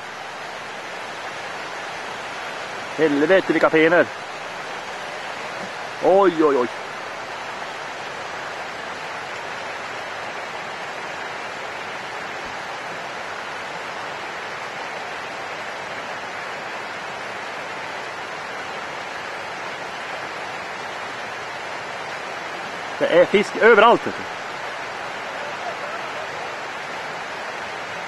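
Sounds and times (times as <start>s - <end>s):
fast-flowing river water rushing: 0.0s - 28.0s.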